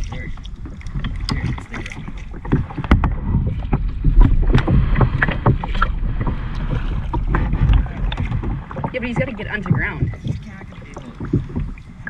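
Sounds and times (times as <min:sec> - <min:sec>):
paddle knocks and splashes: 0:00.0 - 0:12.0
steady low rumble: 0:00.0 - 0:12.0.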